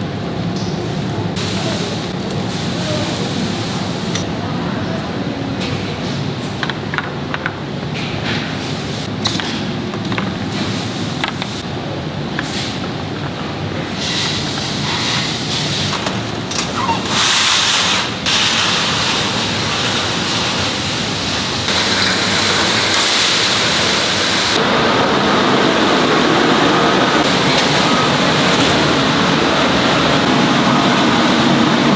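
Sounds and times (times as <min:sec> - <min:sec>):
factory machinery and ventilation hiss: 0:00.0 - 0:31.9.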